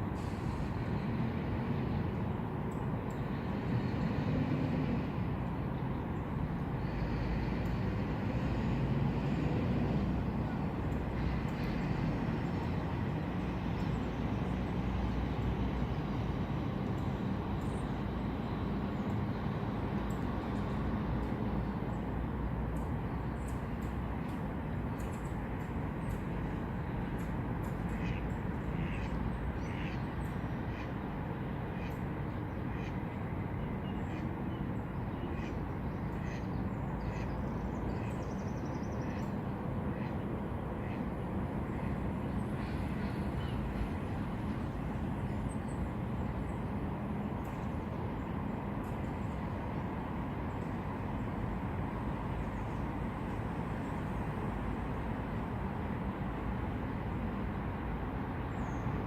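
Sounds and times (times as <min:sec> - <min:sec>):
distant traffic rumble: 0:00.0 - 0:59.0.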